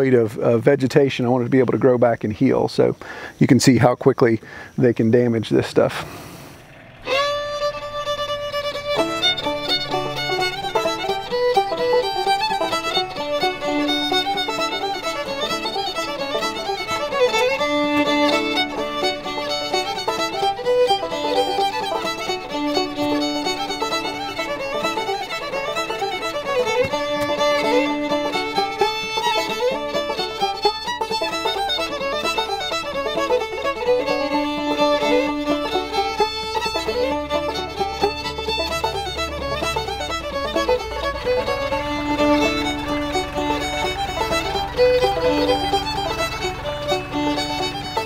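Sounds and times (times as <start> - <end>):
fiddle music: 0.0 - 4.1, 4.8 - 48.0.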